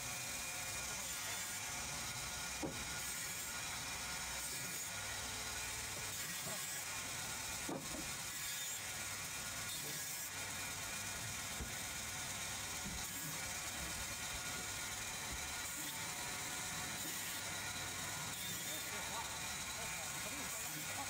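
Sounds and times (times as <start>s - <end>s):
band saw cutting log: 0.0s - 21.0s.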